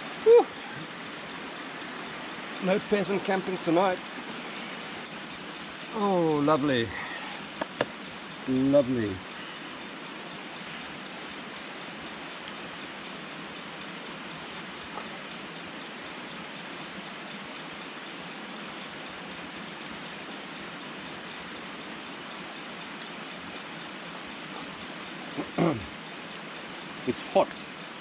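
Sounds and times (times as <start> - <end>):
background hiss: 0.0 - 28.0
crickets trilling: 0.0 - 28.0.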